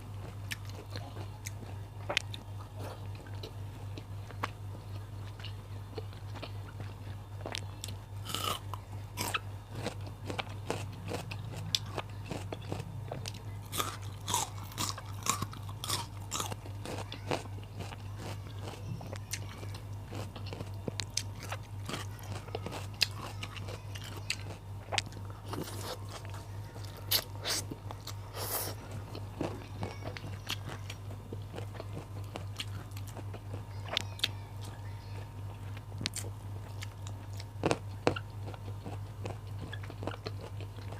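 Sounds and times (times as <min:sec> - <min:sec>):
crunchy chewing and biting: 0:00.0 - 0:40.9
steady low hum: 0:00.0 - 0:40.9.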